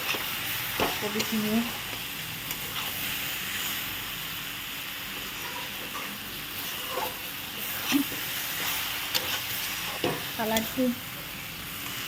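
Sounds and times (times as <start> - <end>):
cabbage sizzling in hot oil: 0.0 - 12.0.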